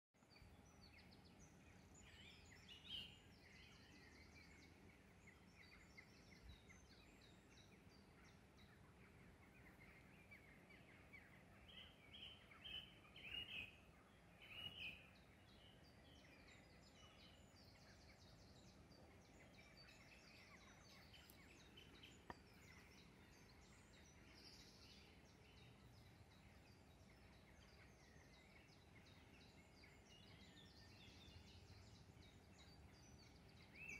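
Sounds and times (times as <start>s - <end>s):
low background hiss: 0.2s - 33.9s
small birds chirping and trilling: 0.2s - 33.9s.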